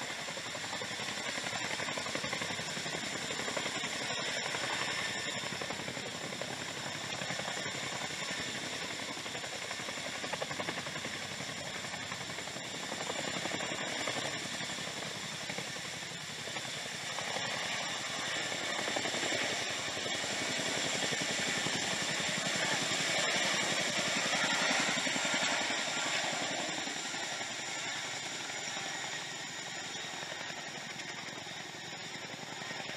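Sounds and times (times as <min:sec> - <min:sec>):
helicopter rotors chopping: 0:00.0 - 0:32.9
high turbine whine: 0:00.0 - 0:32.9.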